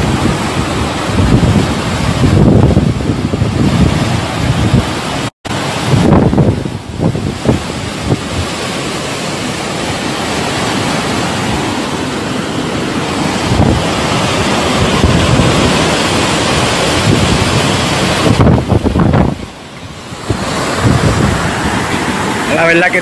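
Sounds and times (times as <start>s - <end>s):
strong wind blowing: 0.0s - 23.0s
wind gusts buffeting microphone: 0.0s - 23.0s.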